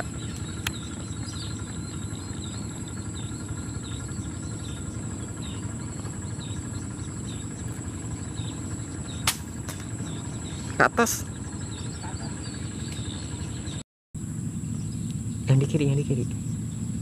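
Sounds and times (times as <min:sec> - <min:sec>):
insect high trill: 0:00.0 - 0:17.0
low steady rumble: 0:00.0 - 0:17.0.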